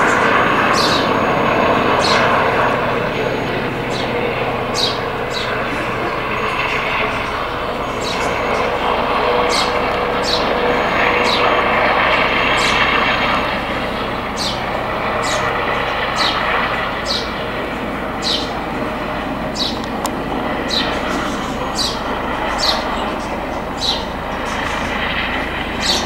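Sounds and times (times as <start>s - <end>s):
helicopter rotor and turbine noise: 0.0s - 26.0s.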